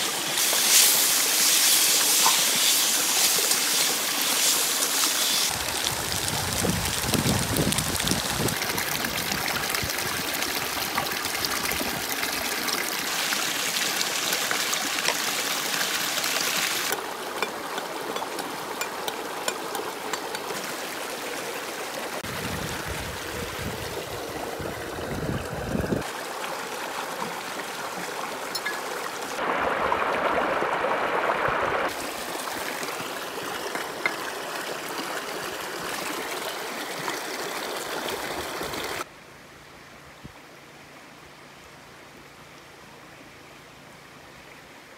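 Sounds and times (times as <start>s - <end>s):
stream rushing over rocks: 0.0s - 39.1s.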